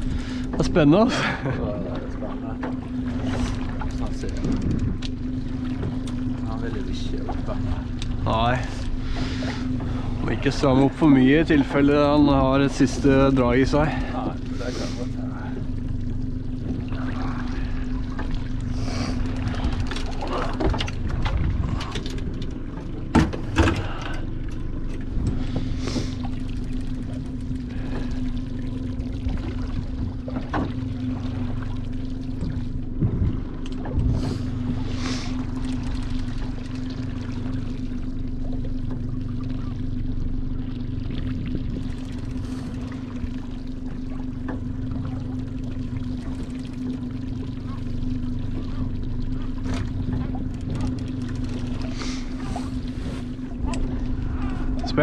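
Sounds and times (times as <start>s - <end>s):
boat engine idling: 0.0s - 55.0s
water sloshing against hull: 0.0s - 55.0s.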